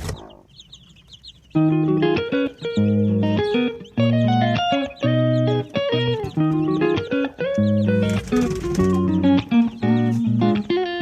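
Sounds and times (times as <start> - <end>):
chicks peeping: 0.0 - 11.0
loud guitar music: 1.6 - 11.0.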